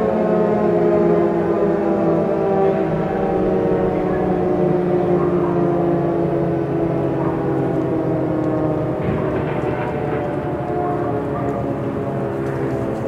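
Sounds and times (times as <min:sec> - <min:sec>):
droning emergency alert alarm: 0:00.0 - 0:13.0.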